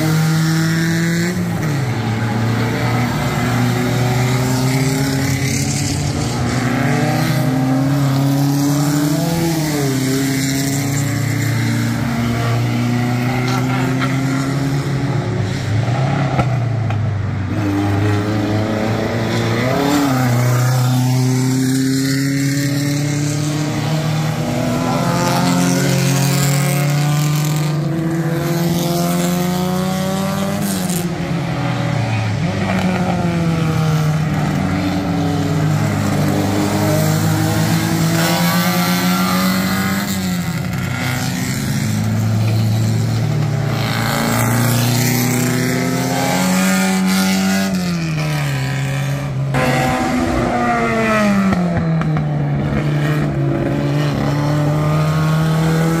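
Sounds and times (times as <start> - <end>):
racing car engines: 0.0 - 56.0.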